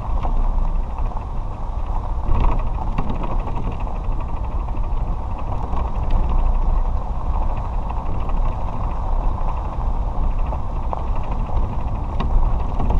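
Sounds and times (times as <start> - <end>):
cart rumbling on dirt road: 0.0 - 12.9
faint ticks and rattles: 0.0 - 12.9
wind buffeting microphone: 0.0 - 12.9.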